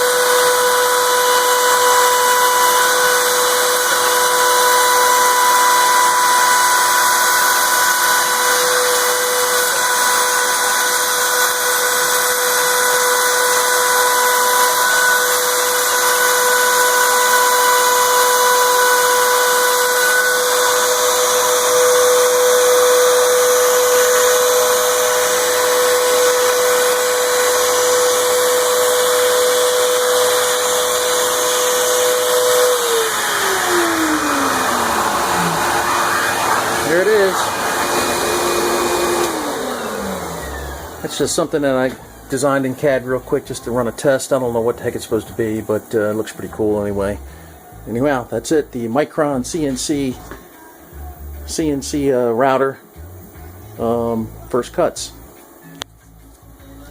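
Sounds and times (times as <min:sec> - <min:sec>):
router spindle whining: 0:00.0 - 0:55.6.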